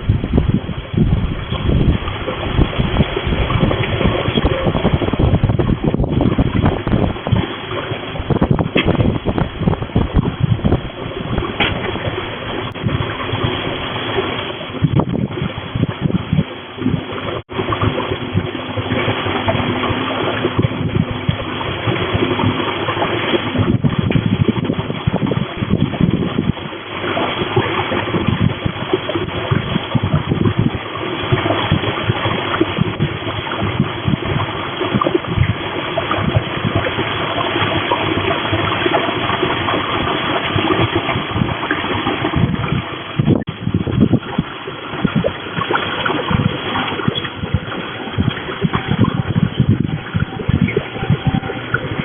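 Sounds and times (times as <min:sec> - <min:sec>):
storm wind rushing: 0:00.0 - 0:52.0
wind buffeting microphone: 0:00.0 - 0:52.0.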